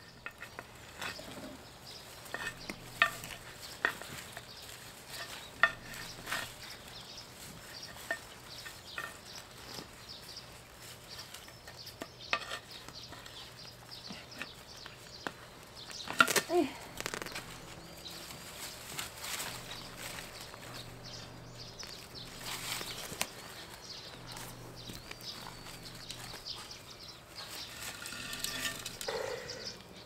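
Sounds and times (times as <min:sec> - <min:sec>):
soil scraping and crackling: 0:00.0 - 0:30.0.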